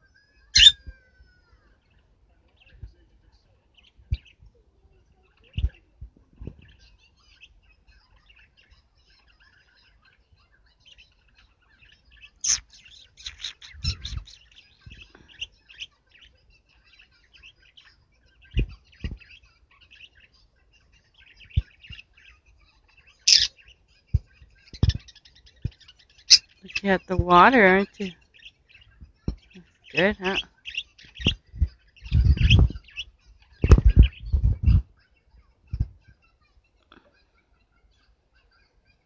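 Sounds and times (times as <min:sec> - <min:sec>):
birds chattering and chirping: 0:00.0 - 0:39.0.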